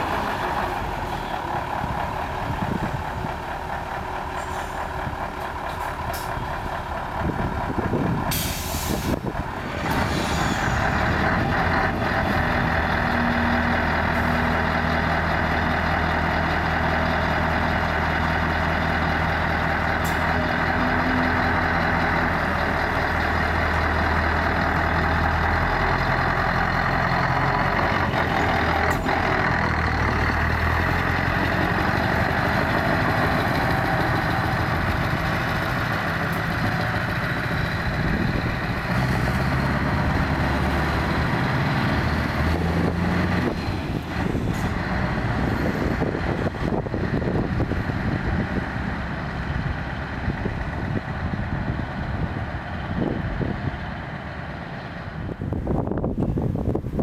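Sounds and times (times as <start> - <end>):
truck engines idling: 0.0 - 57.0.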